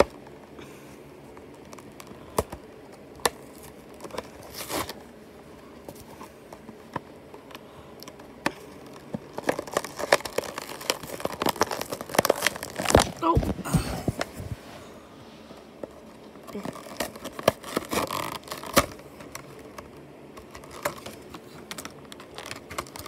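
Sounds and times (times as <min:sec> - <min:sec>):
packaging rustling: 0:01.3 - 0:14.8, 0:15.6 - 0:23.0
blister pack crinkling and tearing: 0:01.4 - 0:05.1, 0:05.9 - 0:14.4, 0:15.9 - 0:23.0.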